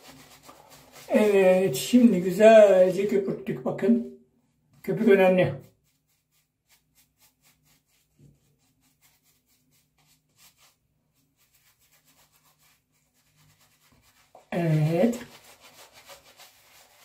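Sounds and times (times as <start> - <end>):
shaving brush rubbing lather: 0.0 - 3.2, 4.7 - 17.0.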